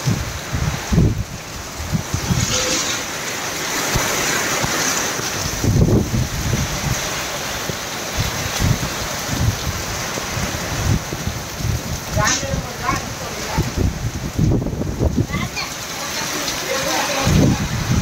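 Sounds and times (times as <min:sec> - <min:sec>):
heavy rain pouring: 0:00.0 - 0:18.0
wind gusts buffeting microphone: 0:00.0 - 0:18.0.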